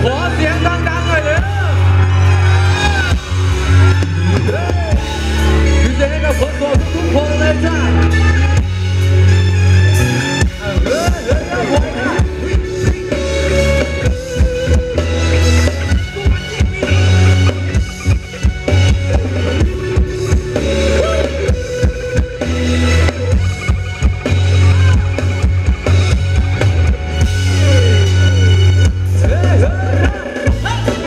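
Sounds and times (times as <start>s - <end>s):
dance band playing loudly: 0.0s - 31.0s
drum kit beat: 0.0s - 31.0s
heavy bass line: 0.0s - 31.0s.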